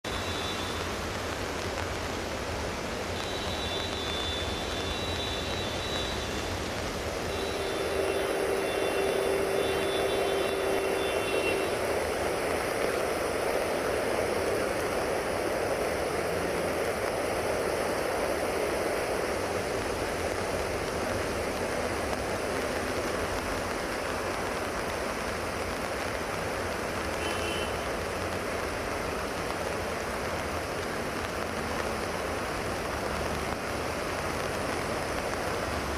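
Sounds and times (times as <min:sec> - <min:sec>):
heavy rain: 0:00.0 - 0:35.9
rushing floodwater: 0:00.1 - 0:35.9.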